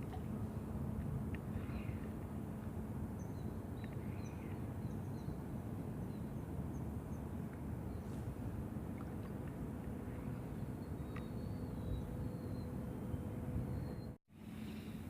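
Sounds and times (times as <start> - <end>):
steady low rumble: 0.0 - 14.9
faint hum: 0.0 - 15.0.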